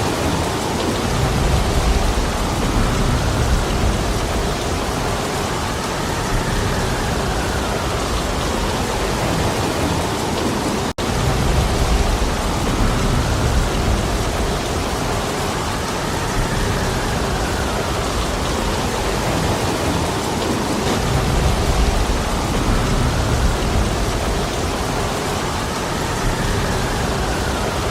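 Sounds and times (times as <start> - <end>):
heavy rain falling: 0.0 - 27.9
low wind rumble: 0.0 - 27.9.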